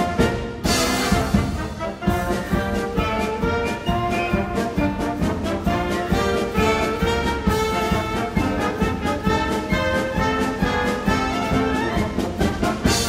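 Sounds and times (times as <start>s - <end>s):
brass band music: 0.0s - 13.0s.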